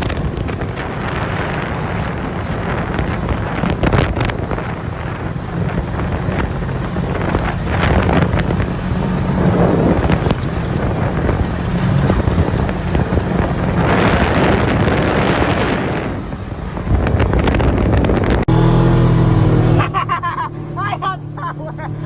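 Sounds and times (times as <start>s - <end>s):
wind buffeting microphone: 0.0s - 20.2s
atv engine running: 0.0s - 22.0s.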